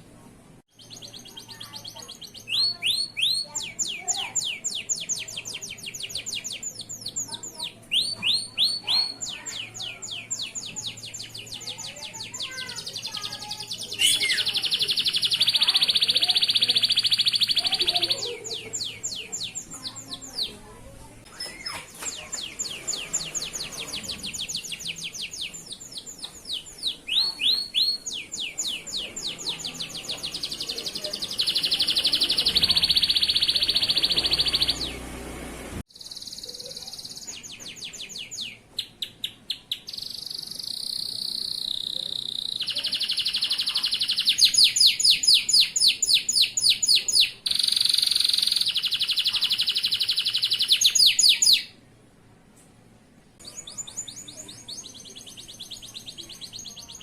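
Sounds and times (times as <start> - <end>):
canary singing trills: 0.7 - 51.8, 53.4 - 57.0.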